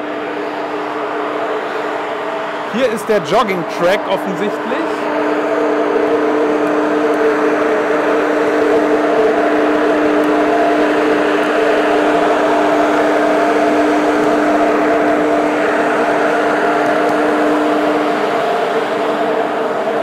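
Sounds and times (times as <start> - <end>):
ship deck machinery droning: 0.0 - 20.0.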